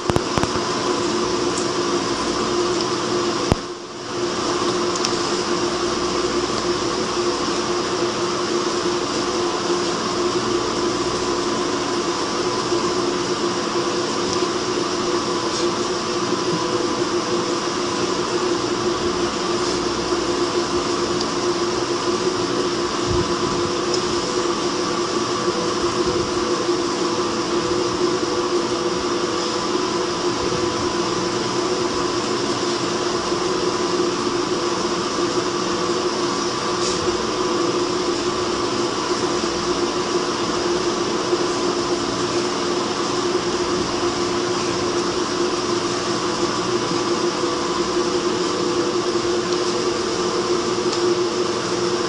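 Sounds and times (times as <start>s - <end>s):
mechanical hum with hiss: 0.0s - 52.0s.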